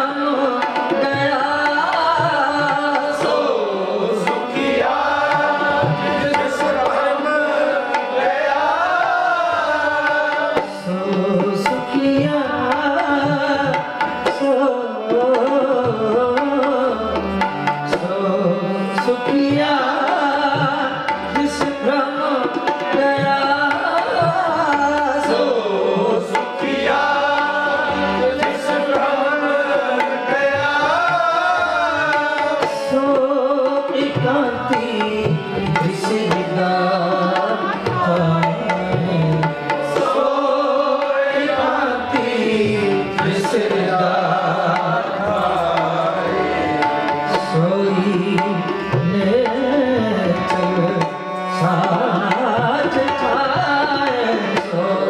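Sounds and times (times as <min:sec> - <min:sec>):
harmonium: 0:00.0 - 0:55.0
tabla drumming: 0:00.0 - 0:55.0.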